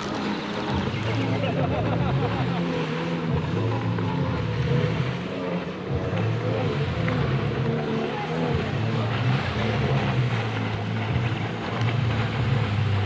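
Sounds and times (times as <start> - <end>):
watercraft engines droning: 0.0 - 13.0.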